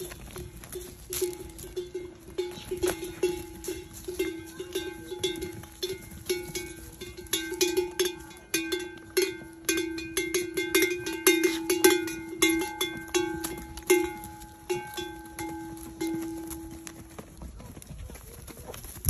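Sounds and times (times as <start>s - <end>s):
sheep bells clanking: 0.0s - 17.9s.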